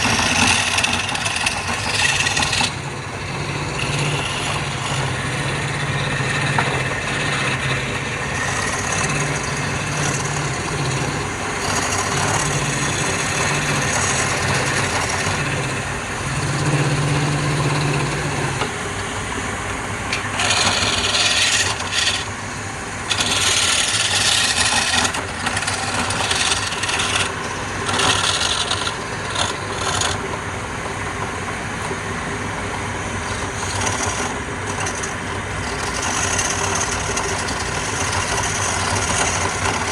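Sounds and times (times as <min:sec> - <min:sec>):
tool scraping spinning wood: 0:00.0 - 0:39.9
wood lathe motor hum: 0:00.0 - 0:39.9.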